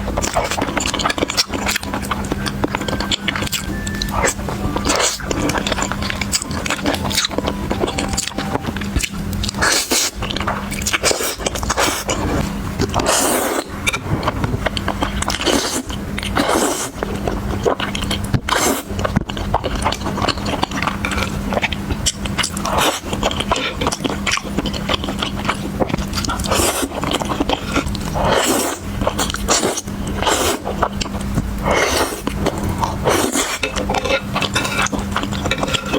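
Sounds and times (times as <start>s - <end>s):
chewing and biting: 0.0s - 35.9s
steady low hum: 0.0s - 35.9s.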